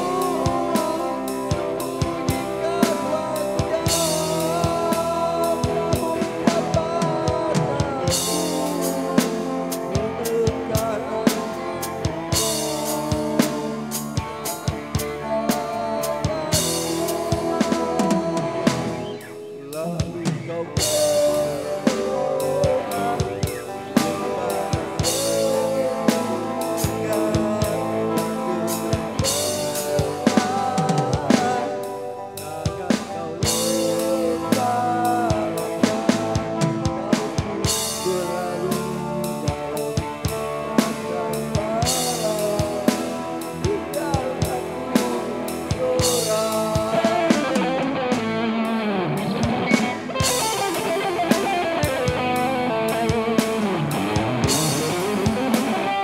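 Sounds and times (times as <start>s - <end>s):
drum kit beat: 0.0s - 56.0s
electric guitar: 0.0s - 56.0s
live band playing: 0.0s - 56.0s.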